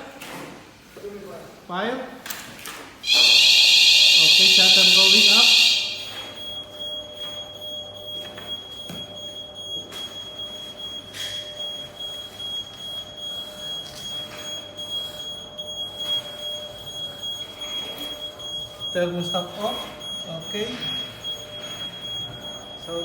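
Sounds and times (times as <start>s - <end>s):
high-pitched electronic alarm tone: 3.0s - 23.0s.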